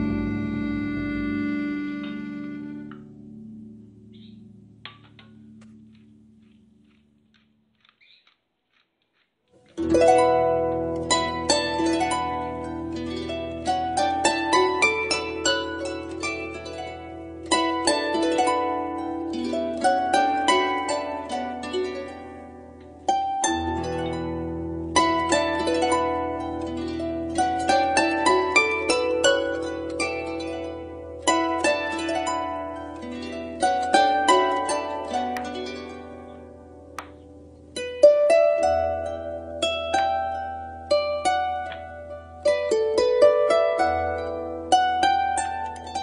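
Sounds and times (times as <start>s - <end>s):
harp music with low bass: 0.0s - 7.2s, 9.6s - 46.0s.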